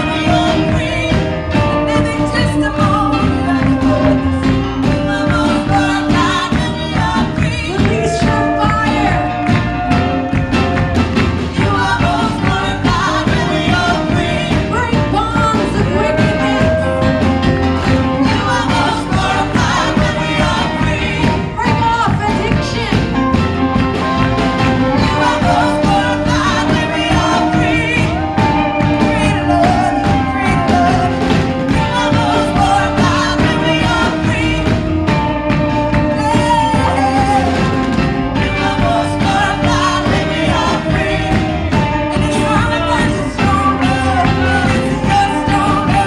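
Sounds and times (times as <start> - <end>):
band playing steady beat: 0.0 - 46.0
voices singing along: 0.0 - 46.0.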